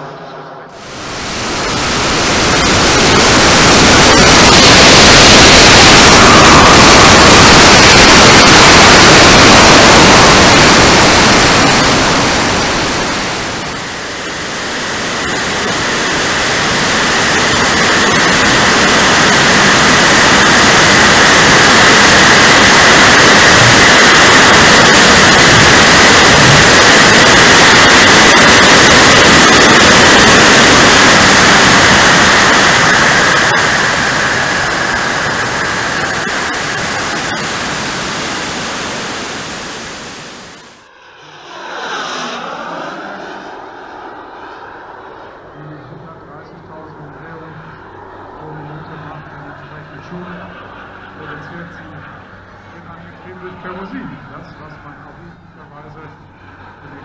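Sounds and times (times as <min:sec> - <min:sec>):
high whine: 0:00.0 - 0:57.0
jet turbine roar: 0:00.0 - 0:57.0
air rushing over microphone: 0:00.7 - 0:54.3.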